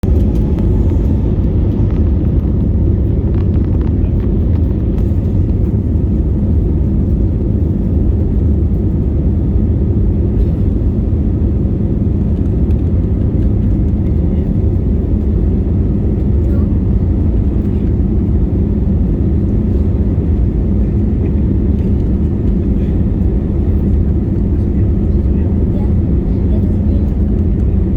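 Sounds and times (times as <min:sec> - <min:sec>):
passenger plane engines rumbling: 0:00.0 - 0:27.9.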